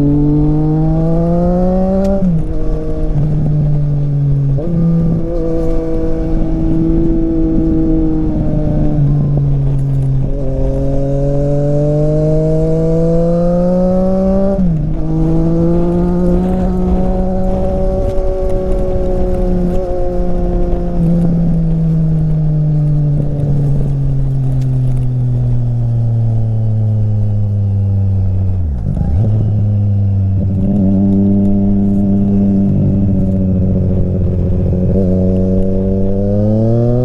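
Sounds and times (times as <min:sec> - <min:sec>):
gear shifts: 0:00.0 - 0:37.0
motorcycle engine revving: 0:00.0 - 0:37.0.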